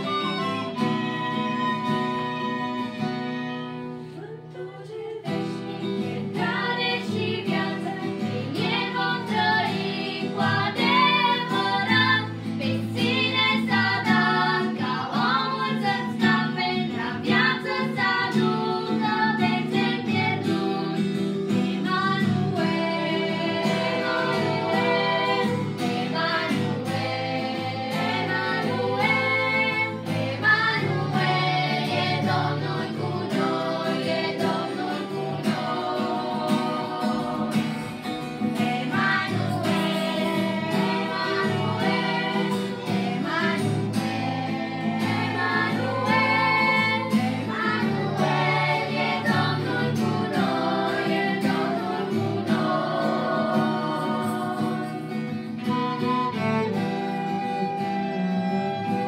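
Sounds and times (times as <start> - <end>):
acoustic guitar: 0.0 - 59.0
violin: 0.0 - 59.0
women singing together: 4.1 - 59.0.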